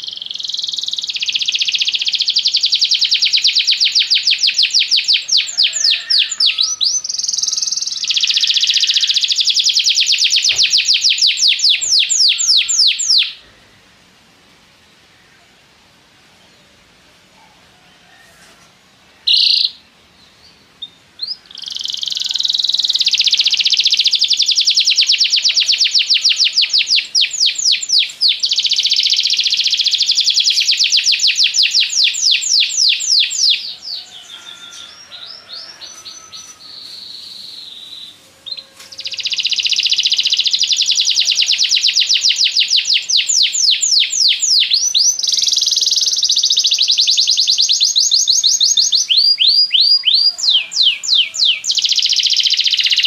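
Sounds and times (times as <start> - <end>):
canary singing trills: 0.0 - 13.6, 19.2 - 53.0.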